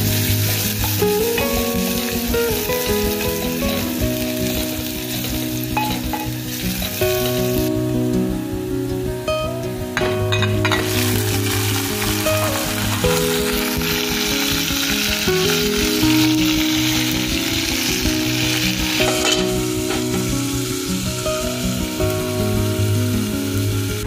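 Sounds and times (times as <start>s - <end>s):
meat sizzling in hot oil: 0.0s - 7.8s, 10.7s - 24.0s
background music: 0.0s - 24.0s.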